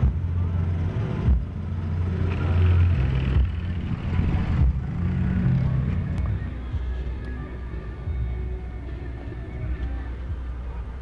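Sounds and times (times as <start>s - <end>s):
bass-heavy car audio: 0.0s - 11.0s.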